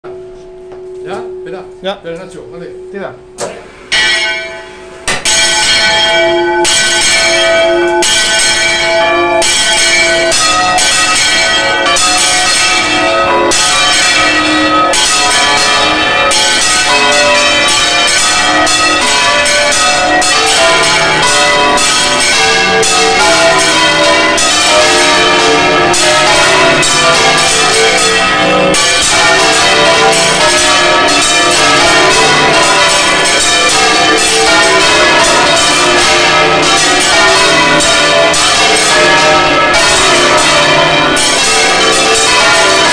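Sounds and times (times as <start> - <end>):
church bells pealing: 0.0 - 42.9
low-pitched bells: 0.0 - 42.9.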